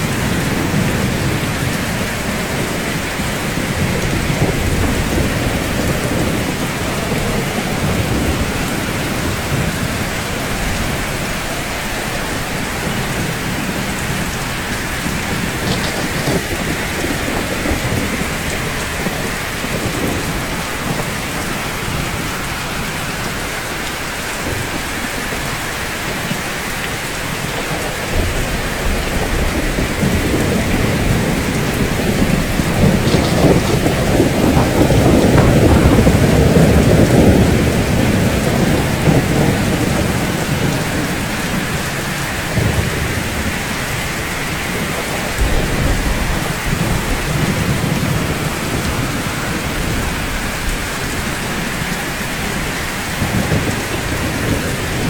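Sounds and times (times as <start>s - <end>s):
rain falling on rooftops: 0.0s - 55.0s
thunder rumbling: 0.0s - 55.0s.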